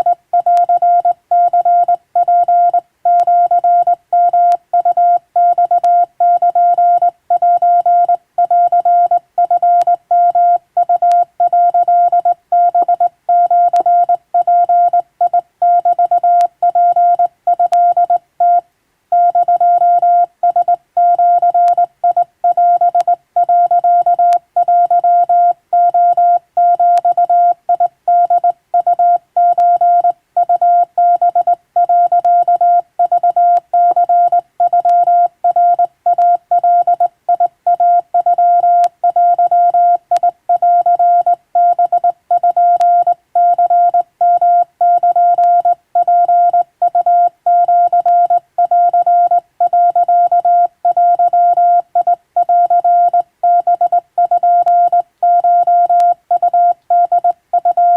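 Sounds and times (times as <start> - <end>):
morse code tone: 0.0 - 18.6, 19.2 - 57.9.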